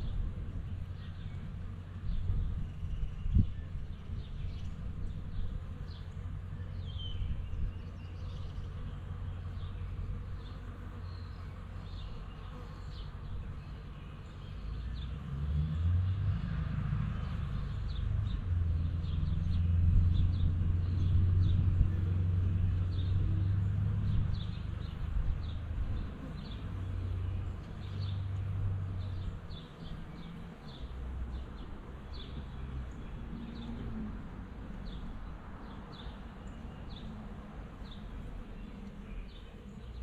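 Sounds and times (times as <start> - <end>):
honeybees buzzing: 0.0 - 14.8, 17.9 - 40.0
birds chirping: 0.0 - 15.2, 17.3 - 40.0.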